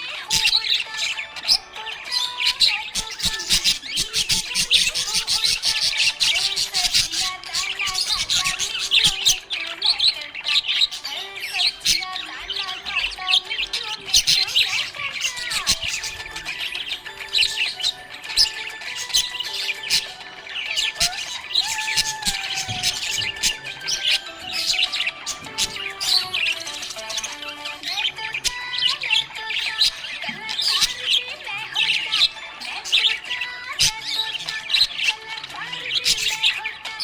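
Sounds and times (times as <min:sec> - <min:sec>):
budgerigars chirping and chattering: 0:00.0 - 0:37.0.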